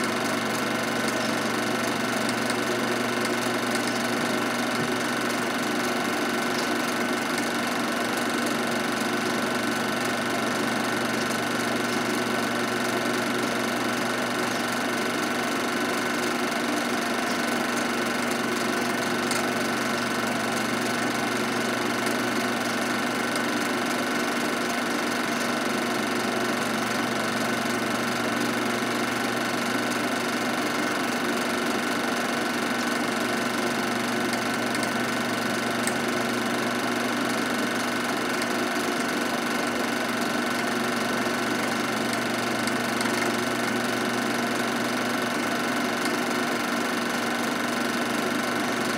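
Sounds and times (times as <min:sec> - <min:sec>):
film projector whirring: 0:00.0 - 0:48.9.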